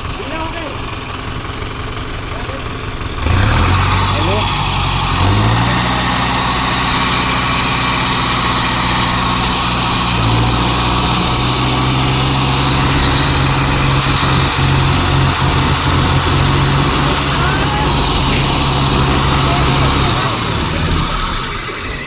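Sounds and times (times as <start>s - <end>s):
diesel tractor engines under load: 0.0s - 22.0s.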